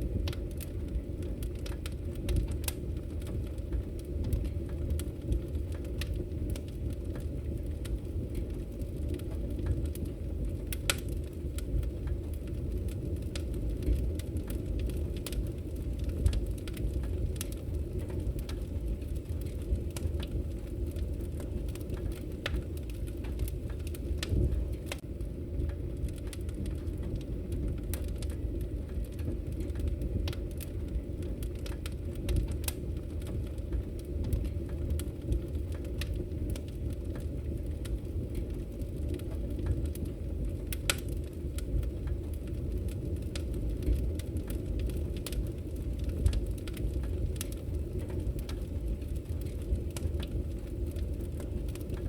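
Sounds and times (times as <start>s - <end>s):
low rumble of burning logs: 0.0s - 52.0s
wood fire crackles and pops: 0.0s - 52.0s.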